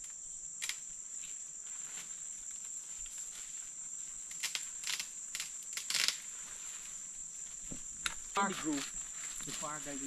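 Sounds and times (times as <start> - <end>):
rainforest insects droning: 0.0 - 10.0.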